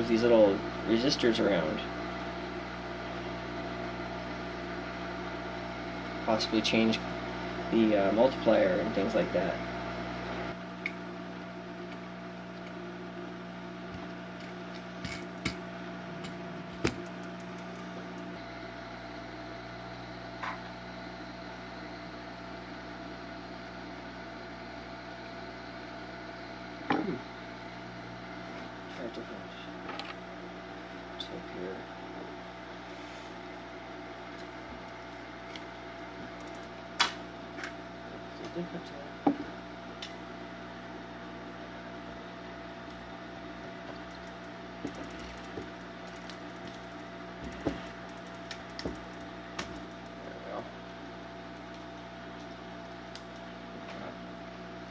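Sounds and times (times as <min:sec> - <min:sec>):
electrical mains hum: 0:00.0 - 0:54.9.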